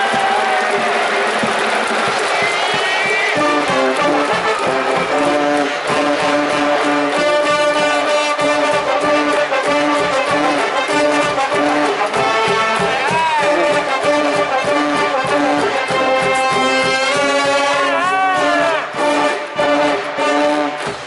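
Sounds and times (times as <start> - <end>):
brass band playing fight song: 0.0 - 21.0.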